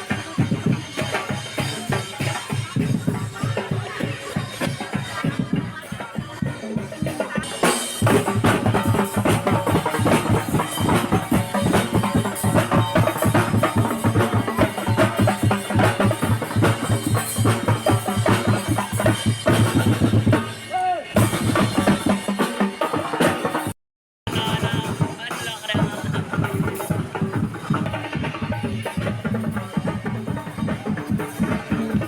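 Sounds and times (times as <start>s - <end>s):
fast drumming on bass and snare: 0.0s - 32.0s.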